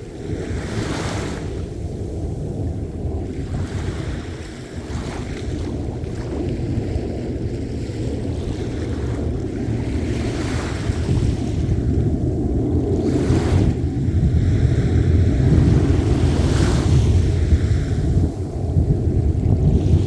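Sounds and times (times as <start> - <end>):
waves breaking on shore: 0.0 - 20.0
wind rumble on microphone: 0.0 - 20.0.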